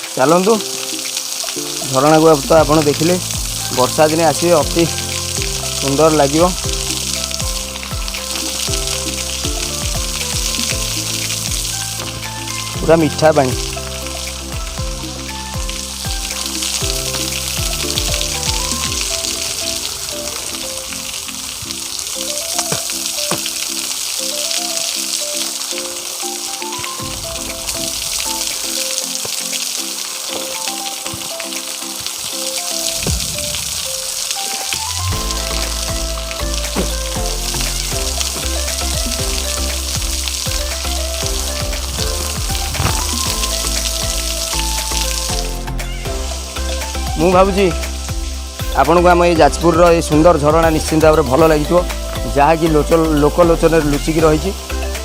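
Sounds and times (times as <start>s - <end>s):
music with held notes: 0.0s - 55.0s
waterfall rushing: 0.0s - 55.0s.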